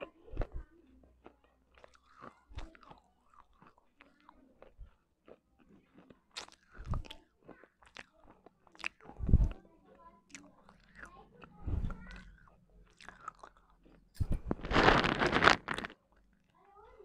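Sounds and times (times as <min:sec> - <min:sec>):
chewing crunchy shards: 0:00.4 - 0:09.6, 0:10.2 - 0:16.4.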